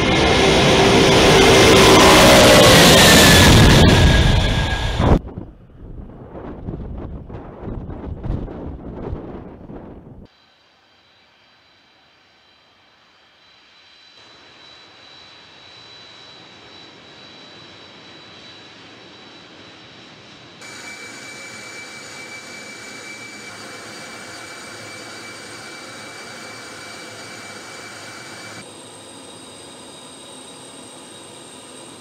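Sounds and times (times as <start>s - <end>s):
jet engines whining: 0.0s - 5.6s, 11.4s - 32.0s.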